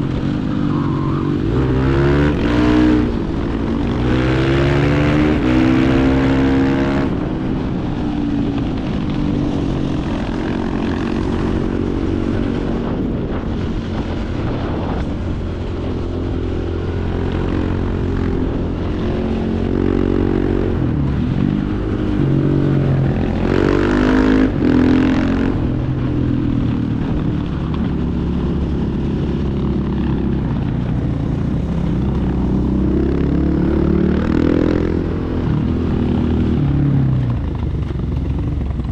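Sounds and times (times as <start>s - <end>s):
motorcycle engines revving: 0.0s - 38.9s
wind noise: 0.0s - 38.9s.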